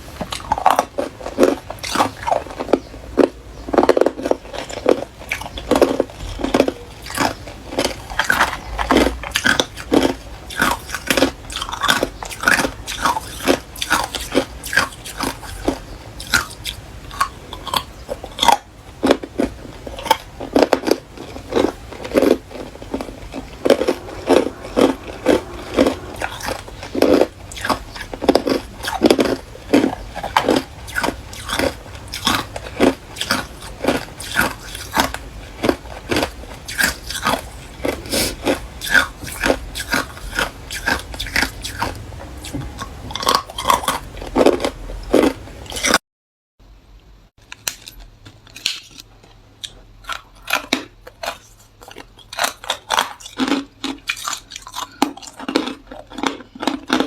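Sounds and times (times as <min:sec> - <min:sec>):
ice crunching in mouth: 0:00.3 - 0:46.0, 0:47.6 - 0:57.0.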